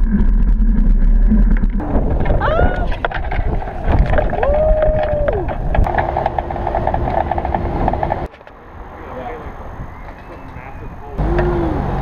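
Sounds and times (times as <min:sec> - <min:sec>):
road noise rumble: 0:01.6 - 0:12.0
wind buffeting microphone: 0:01.8 - 0:12.0.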